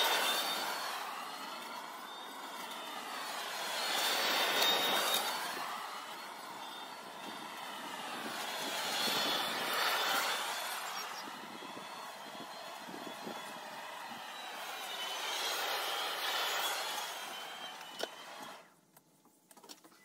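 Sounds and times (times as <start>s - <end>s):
electric lawn mower whining: 0.0s - 18.8s.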